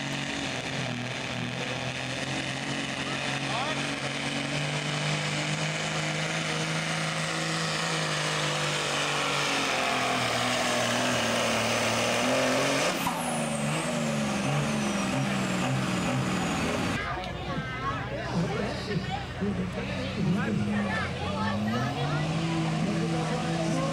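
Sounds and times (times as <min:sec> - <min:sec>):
diesel truck engine running hard: 0:00.0 - 0:23.9.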